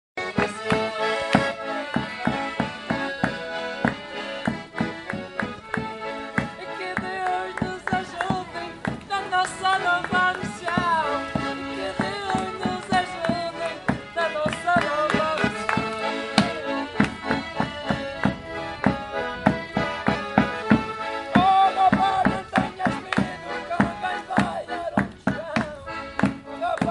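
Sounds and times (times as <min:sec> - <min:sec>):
accordion playing folk dance tune: 0:00.2 - 0:26.9.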